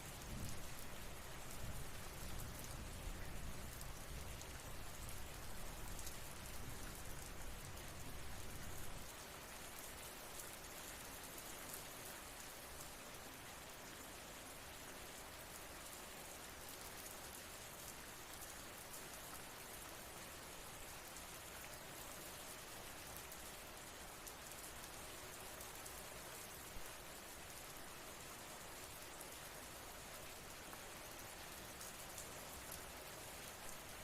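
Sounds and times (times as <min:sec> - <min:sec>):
faint rain falling: 0:00.0 - 0:34.0.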